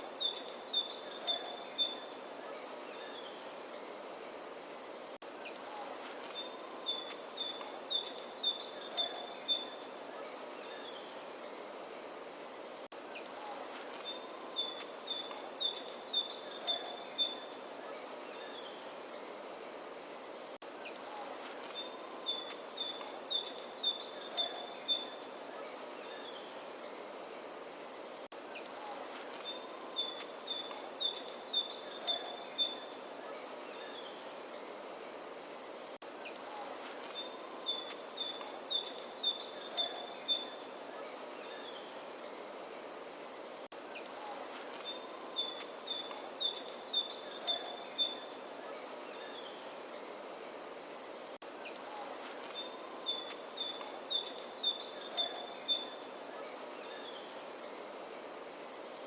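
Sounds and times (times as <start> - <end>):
faint steady background hiss: 0.0 - 59.0
songbird singing: 0.0 - 59.0.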